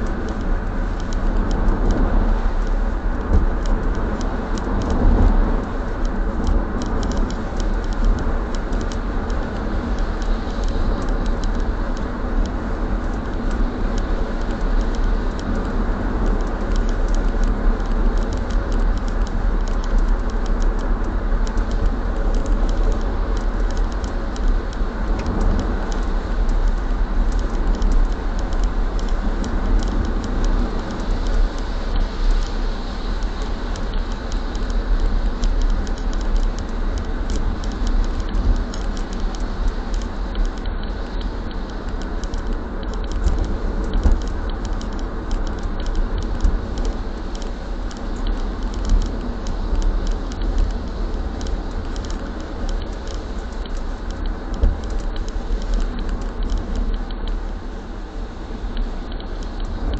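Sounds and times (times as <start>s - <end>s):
faint ticks: 0.0s - 57.8s, 58.6s - 59.9s
road and engine noise: 0.0s - 59.9s
tyre hiss on wet road: 0.1s - 59.9s.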